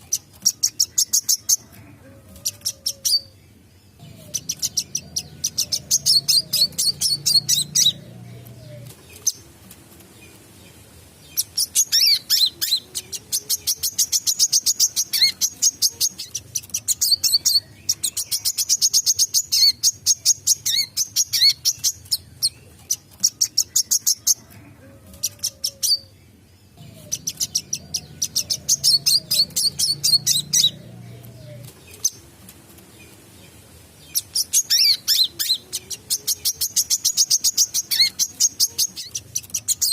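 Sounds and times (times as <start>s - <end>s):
bird chattering song: 0.0s - 1.8s, 2.4s - 24.6s, 25.2s - 32.3s, 32.9s - 39.9s.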